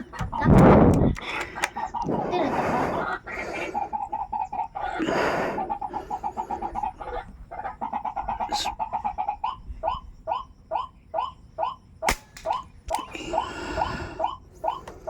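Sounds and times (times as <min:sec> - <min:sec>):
bird clucking calls: 0:00.0 - 0:15.0.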